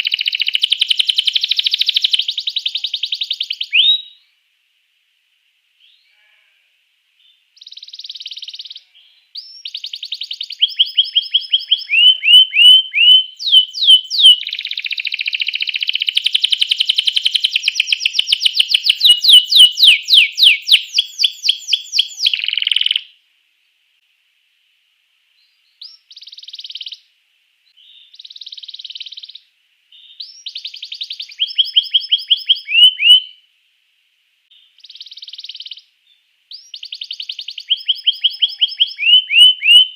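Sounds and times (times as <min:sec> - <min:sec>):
canary singing trills: 0:00.0 - 0:04.3, 0:07.2 - 0:23.2, 0:25.4 - 0:27.1, 0:27.7 - 0:33.5, 0:34.5 - 0:39.9.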